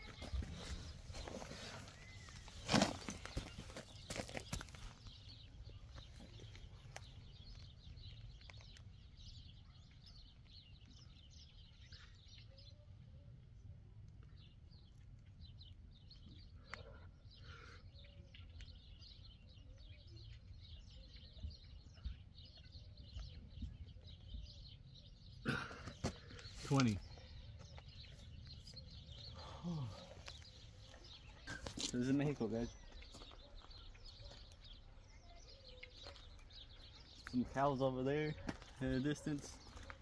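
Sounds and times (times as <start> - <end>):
faint birds chirping: 0.0 - 40.0.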